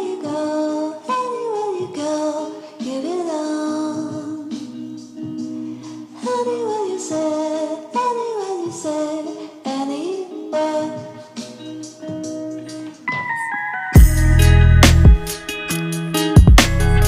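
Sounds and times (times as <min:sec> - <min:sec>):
song with sung melody: 0:00.0 - 0:17.0.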